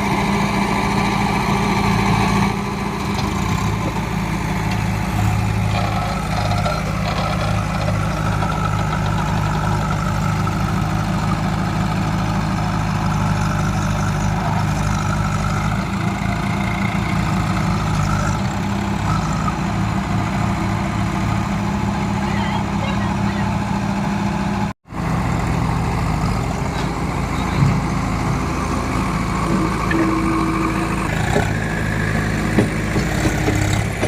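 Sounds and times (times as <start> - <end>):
diesel engine idling low: 0.0 - 34.0.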